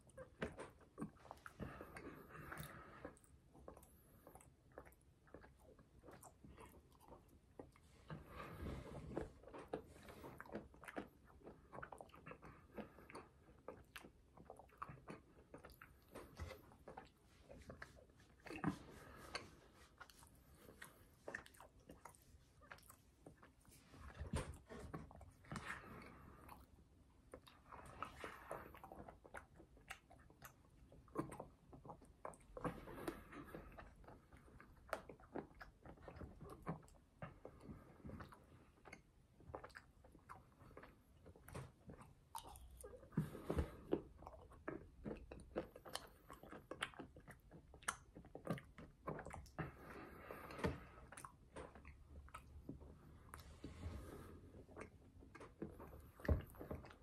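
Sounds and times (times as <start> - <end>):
wet chewing and crunching: 0.0 - 57.0.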